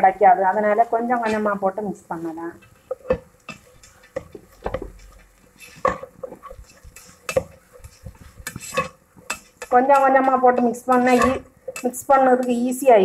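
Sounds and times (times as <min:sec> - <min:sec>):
spatula scraping a pan: 0:00.8 - 0:01.6, 0:02.2 - 0:12.7.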